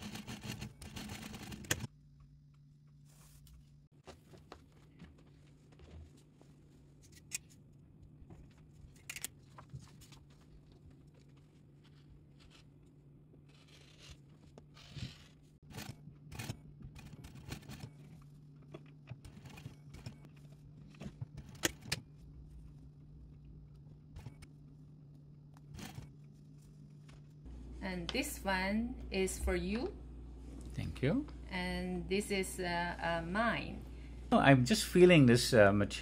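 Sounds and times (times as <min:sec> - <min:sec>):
steady low hum: 0:00.8 - 0:36.0.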